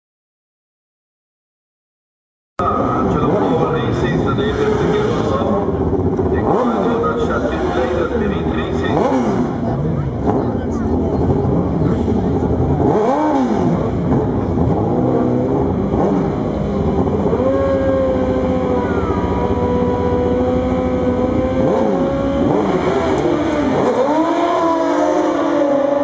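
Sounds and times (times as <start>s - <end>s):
motorcycle engines revving: 2.6s - 26.0s.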